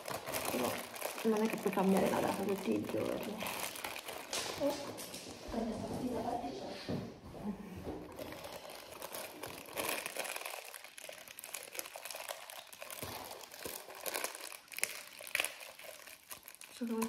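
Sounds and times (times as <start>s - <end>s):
chewing crunchy snack bar: 0.0s - 5.0s, 8.1s - 17.0s.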